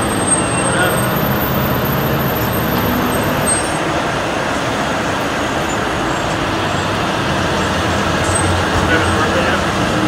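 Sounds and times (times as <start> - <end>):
road traffic noise: 0.0 - 10.0
vehicle engines running close by: 0.0 - 10.0.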